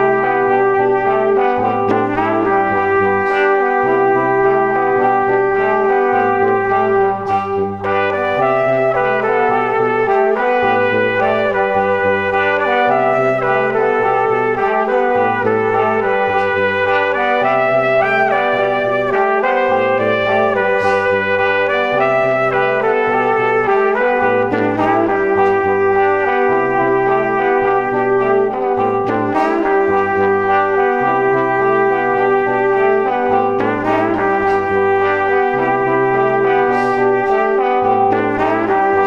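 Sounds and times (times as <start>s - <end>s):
instrumental background music: 0.0s - 39.0s.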